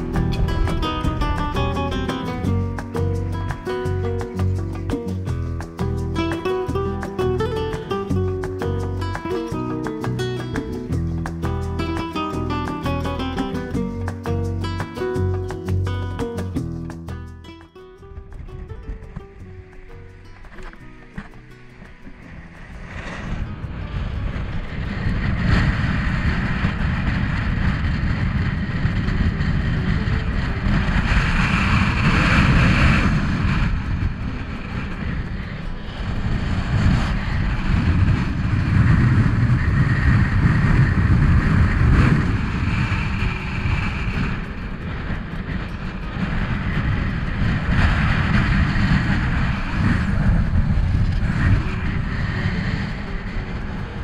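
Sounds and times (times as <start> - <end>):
rushing air gusts: 0.0 - 54.0
wind buffeting microphone: 0.0 - 54.0.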